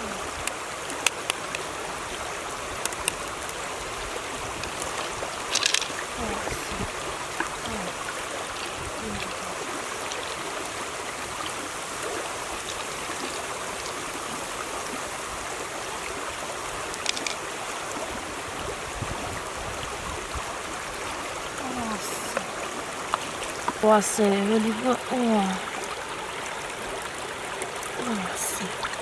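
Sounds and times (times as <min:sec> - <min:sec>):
running water: 0:00.0 - 0:29.0.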